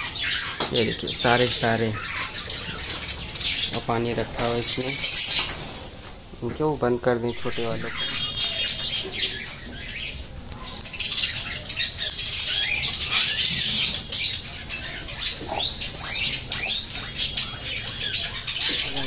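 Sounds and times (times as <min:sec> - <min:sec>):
budgerigars chattering: 0:00.0 - 0:05.9, 0:06.8 - 0:19.0.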